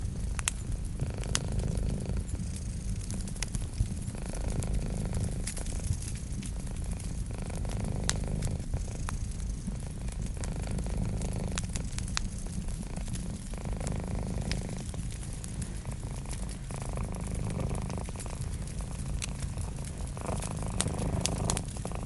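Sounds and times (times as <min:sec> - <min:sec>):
cat purring: 0:00.0 - 0:22.0
wood fire crackling: 0:00.0 - 0:22.0.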